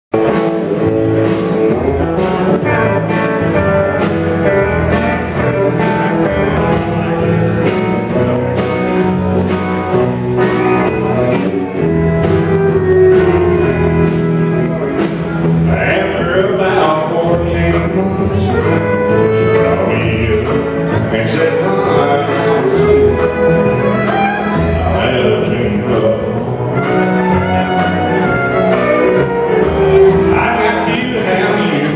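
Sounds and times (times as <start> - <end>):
live country band: 0.1 - 31.9
bending melodic line: 0.2 - 31.9.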